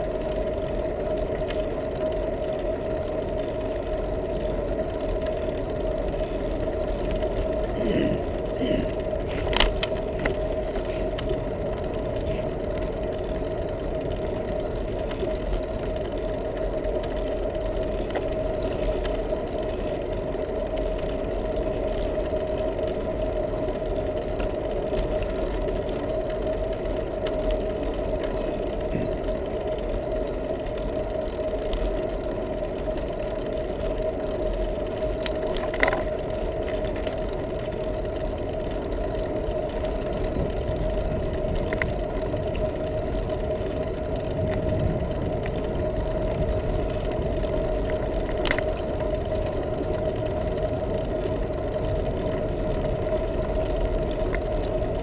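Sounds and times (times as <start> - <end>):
bicycle rattling over bumps: 0.0 - 55.0
bicycle tyre and wind noise: 0.0 - 55.0.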